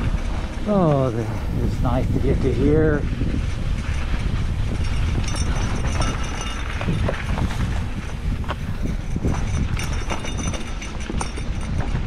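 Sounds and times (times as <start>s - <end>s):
bike clicks and rattles: 0.0s - 12.0s
mountain bike rolling on dirt: 0.0s - 12.0s
wind noise on microphone: 0.0s - 12.0s.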